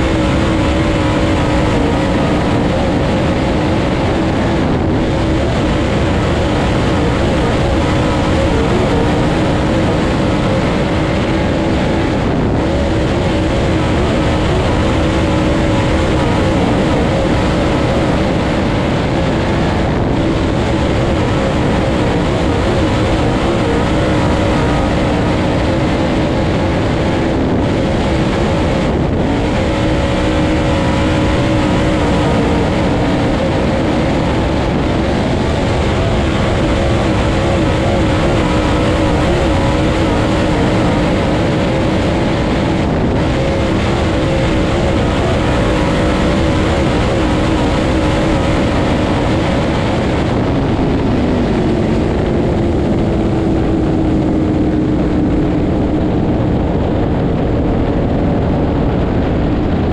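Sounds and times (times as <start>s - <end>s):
race car engine droning: 0.0s - 59.9s.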